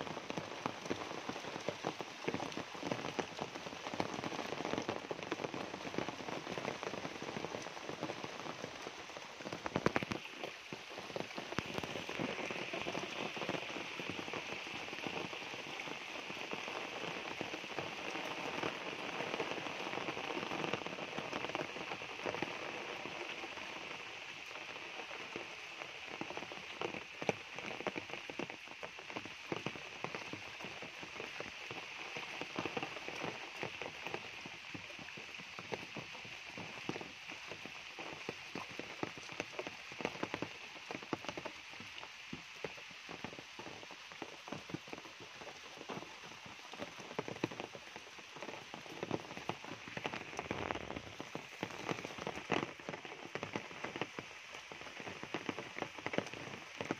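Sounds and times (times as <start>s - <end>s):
rain falling on foliage: 0.0s - 56.9s.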